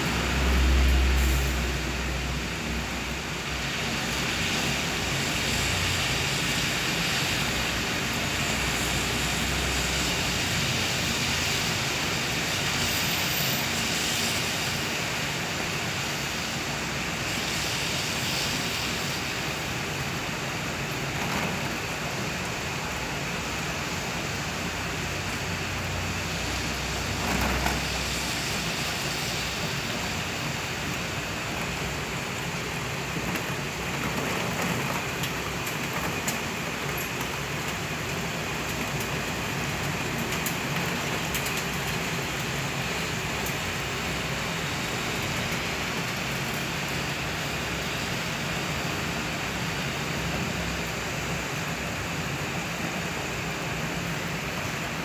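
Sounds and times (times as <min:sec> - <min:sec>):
heavy rain on wet street: 0:00.0 - 0:55.0
vehicle passing on wet road: 0:00.0 - 0:55.0.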